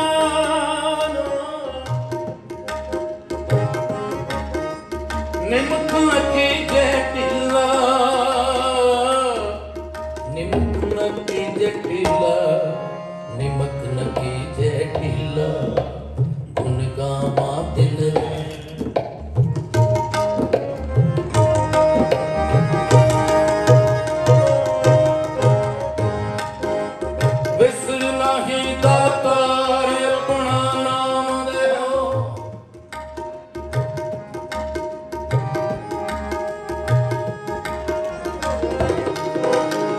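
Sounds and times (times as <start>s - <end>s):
tabla drumming: 0.0s - 12.8s, 13.4s - 39.9s
harmonium melody over drone: 0.0s - 15.9s, 19.4s - 39.9s.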